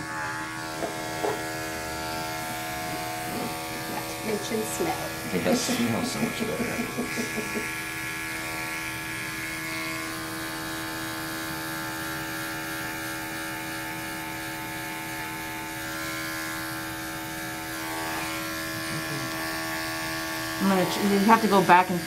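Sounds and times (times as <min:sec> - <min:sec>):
electric clippers humming: 0:00.0 - 0:22.0.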